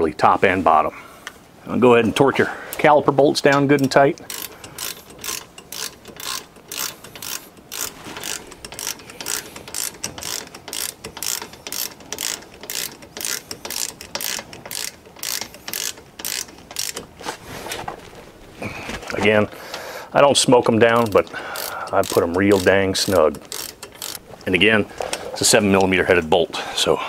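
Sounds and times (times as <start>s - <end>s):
hand ratchet clicking: 2.0s - 17.4s, 19.6s - 26.0s.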